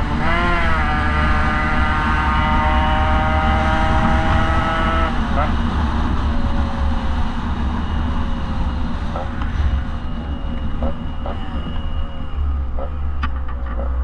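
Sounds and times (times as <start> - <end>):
motorcycle engine at speed: 0.0 - 14.0
wind rumble: 0.0 - 14.0.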